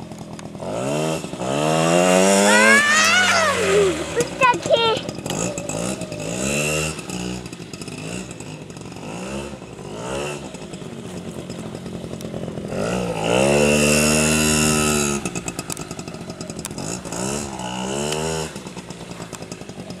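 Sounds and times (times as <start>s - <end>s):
minibike engine revving: 0.0s - 20.0s.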